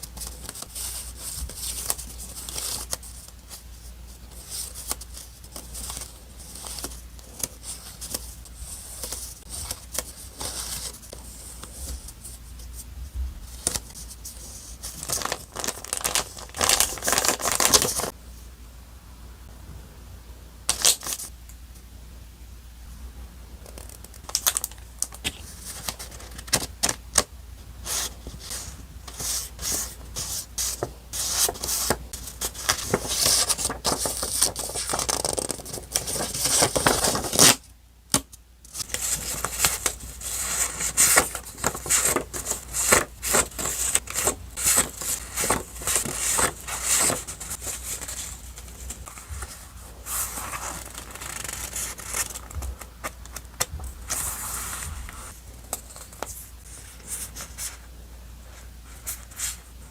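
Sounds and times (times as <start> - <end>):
paper crinkling and rustling: 0.0 - 12.8, 13.4 - 18.2, 23.6 - 37.6, 38.7 - 57.8.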